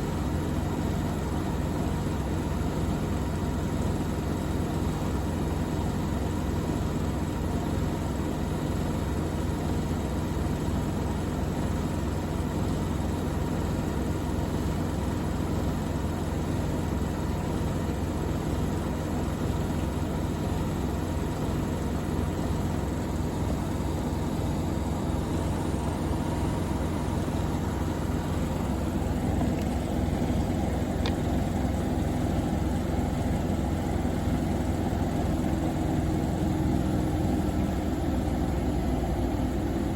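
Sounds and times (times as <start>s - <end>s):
motor and drum hum: 0.0s - 39.9s
washing machines spinning: 0.0s - 39.9s.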